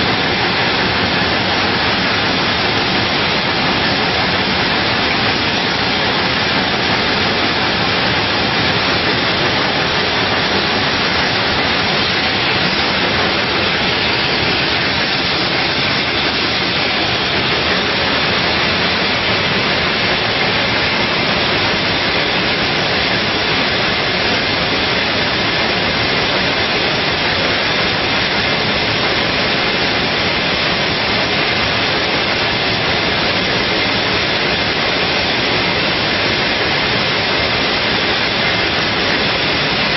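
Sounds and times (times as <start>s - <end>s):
bottling machinery hissing: 0.0s - 39.9s.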